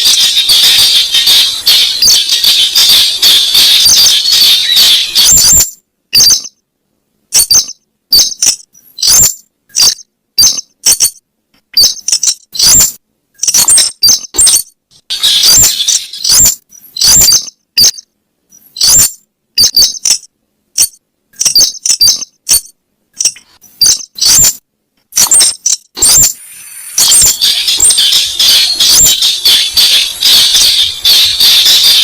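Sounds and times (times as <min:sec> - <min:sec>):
squeaky bird lure calls: 0:00.0 - 0:06.6, 0:07.4 - 0:11.2, 0:11.8 - 0:24.6, 0:25.2 - 0:32.0.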